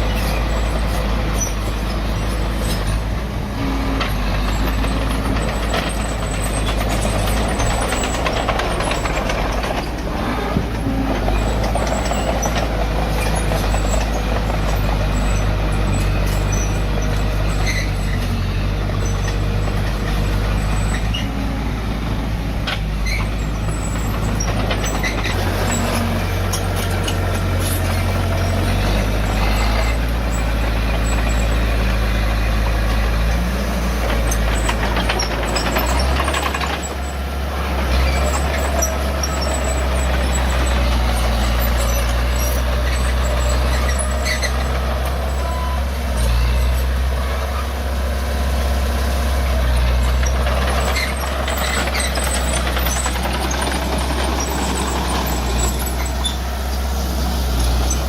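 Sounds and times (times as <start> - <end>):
diesel earthmoving machinery engine: 0.0 - 58.0.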